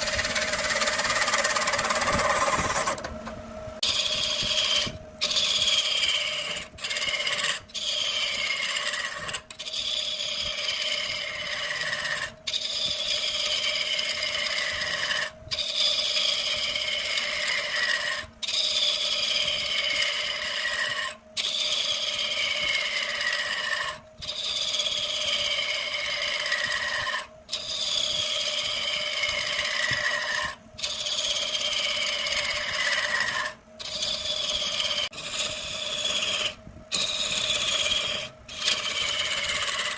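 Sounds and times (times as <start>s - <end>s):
wood lathe tool scraping and whining: 0.0s - 39.9s.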